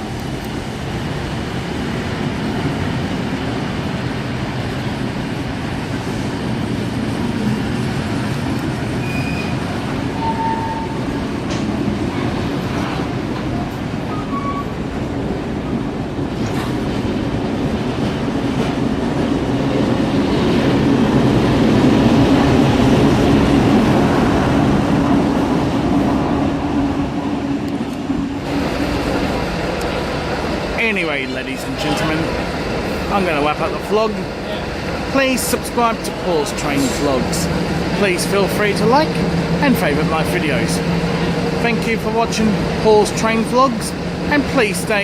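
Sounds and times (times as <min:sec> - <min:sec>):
train rumbling: 0:00.0 - 0:45.0.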